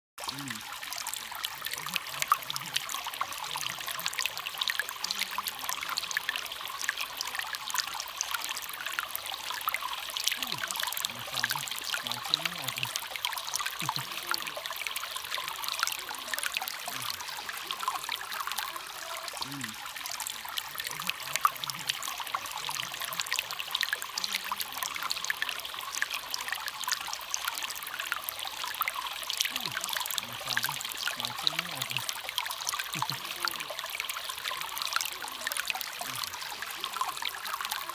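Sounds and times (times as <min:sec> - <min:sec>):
small water splashes: 0:00.2 - 0:37.9
small waterfall trickling: 0:00.2 - 0:37.9.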